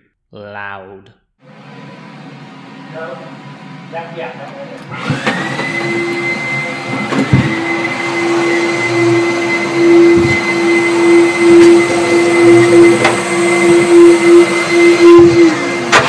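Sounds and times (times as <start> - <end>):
air pump whining: 1.4 - 16.0.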